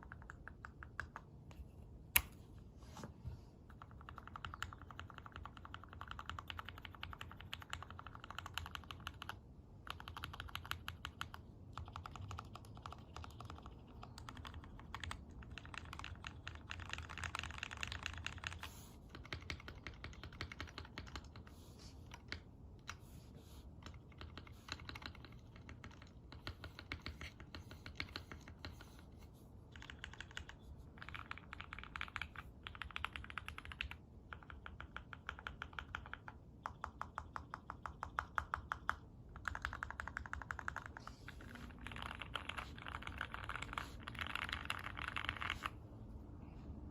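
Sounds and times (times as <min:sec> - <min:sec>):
fast typing on mechanical keyboard: 0:03.7 - 0:23.0, 0:23.8 - 0:29.0, 0:29.7 - 0:45.8.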